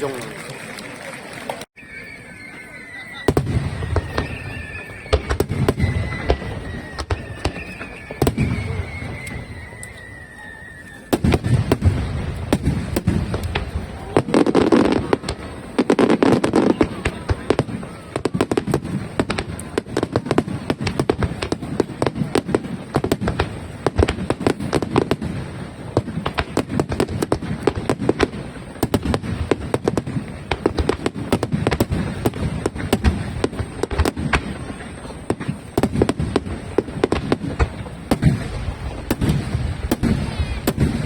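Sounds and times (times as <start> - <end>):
fireworks crackle: 0.0 - 41.0.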